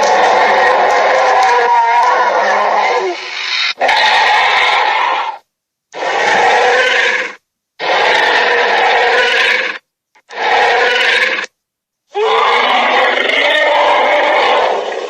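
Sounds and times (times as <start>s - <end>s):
dinosaur roaring: 0.0s - 5.4s, 6.0s - 11.5s, 12.1s - 15.0s.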